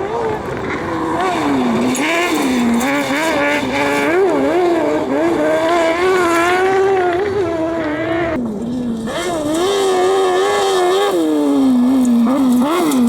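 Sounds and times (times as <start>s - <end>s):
racing engine revving: 0.0s - 13.0s.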